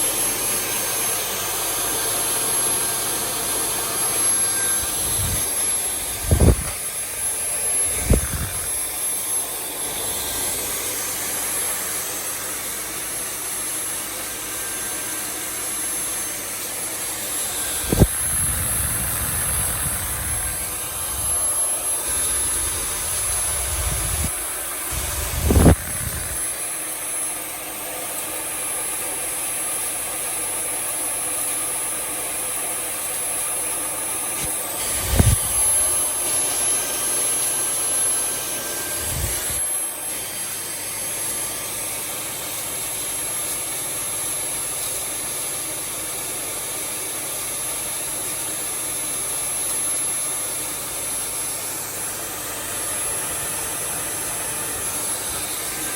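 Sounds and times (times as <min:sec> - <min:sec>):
handheld vacuum motor whine: 0:00.0 - 0:55.9.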